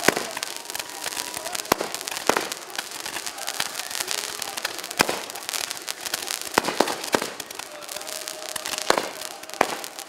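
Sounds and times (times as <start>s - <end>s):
fireworks crackling and popping: 0.0s - 10.0s.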